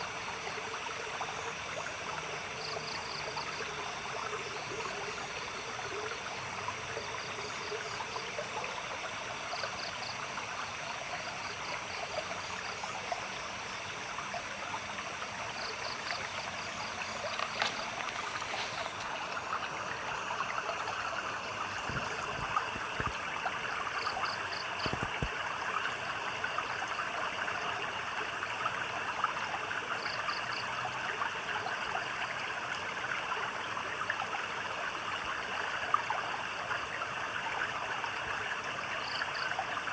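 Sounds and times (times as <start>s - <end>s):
stream babbling over stones: 0.0s - 38.4s.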